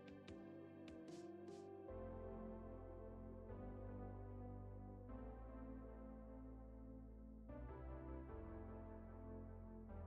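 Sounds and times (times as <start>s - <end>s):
soft keyboard chords music: 0.0s - 10.0s.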